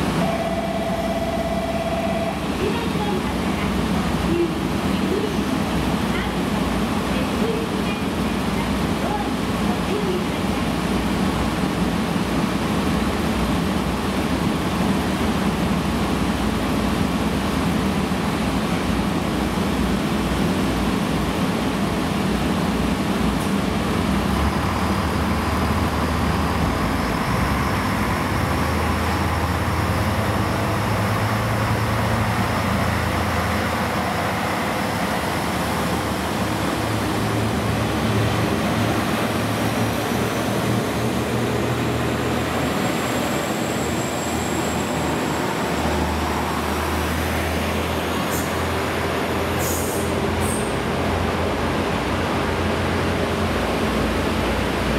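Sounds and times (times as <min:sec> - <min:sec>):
diesel train engine rumbling: 0:00.0 - 0:54.9.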